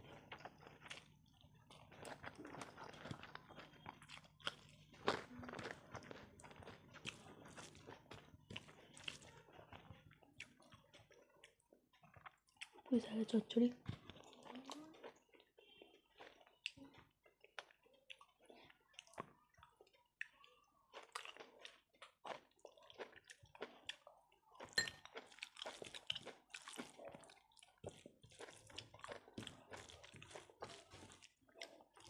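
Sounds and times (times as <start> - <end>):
chewing with mouth closed: 0.0 - 13.0, 13.8 - 32.0.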